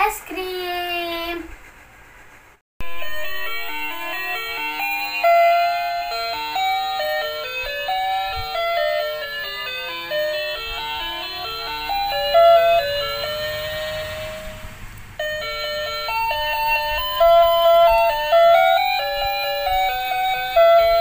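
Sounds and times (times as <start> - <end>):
toy ice cream jingle: 2.8 - 21.0.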